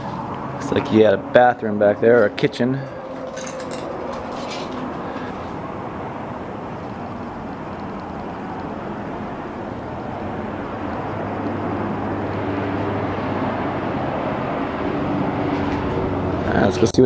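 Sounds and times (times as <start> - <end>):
distant engine drone: 0.0 - 17.0
low steady hum: 0.0 - 17.0.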